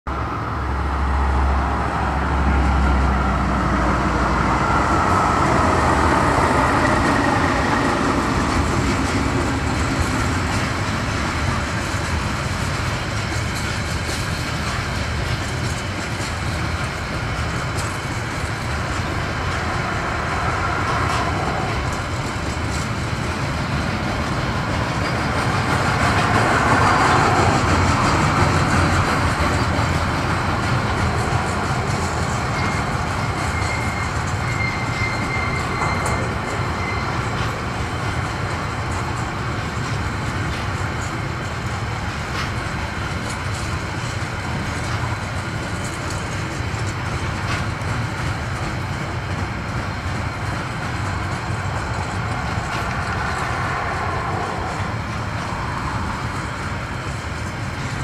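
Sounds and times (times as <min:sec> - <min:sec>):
diesel locomotive engine hum: 0:00.1 - 0:58.0
train wheels rolling on rails: 0:00.1 - 0:58.0.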